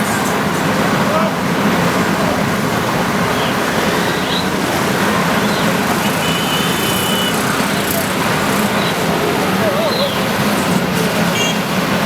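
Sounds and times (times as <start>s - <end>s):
engine and street noise: 0.0s - 12.0s.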